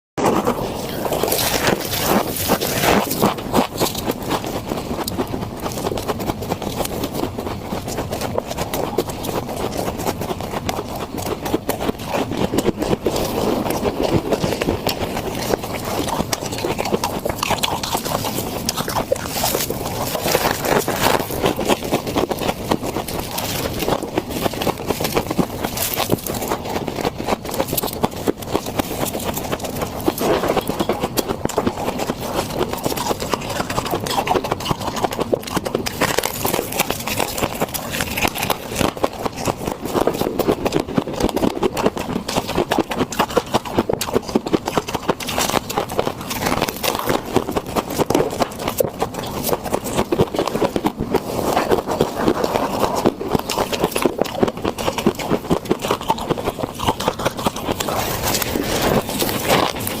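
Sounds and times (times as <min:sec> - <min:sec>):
frost being chewed crunching: 0:00.2 - 1:00.0.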